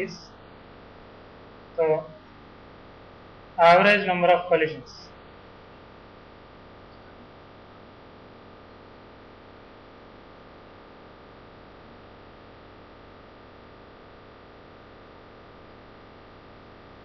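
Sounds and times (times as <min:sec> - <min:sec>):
thin high whine: 0:00.0 - 0:16.9
electrical hiss and hum: 0:00.0 - 0:17.0.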